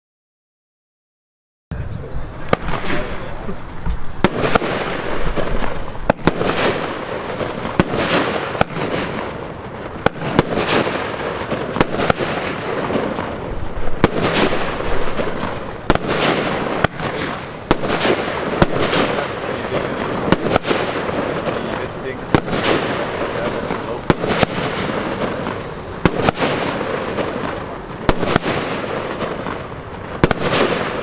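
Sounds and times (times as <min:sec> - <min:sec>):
crackling of bursting stars: 0:01.7 - 0:31.0
firework shots: 0:01.7 - 0:31.0.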